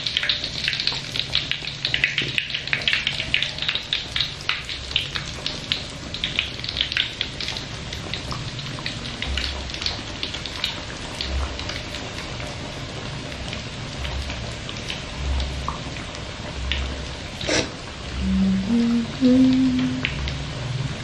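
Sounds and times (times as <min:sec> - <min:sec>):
oil crackling and spitting: 0:00.0 - 0:18.2.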